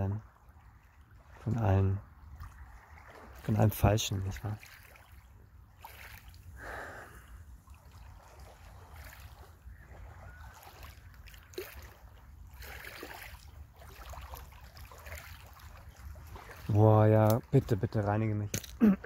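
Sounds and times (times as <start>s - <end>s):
waves lapping against stones: 0.9s - 17.7s.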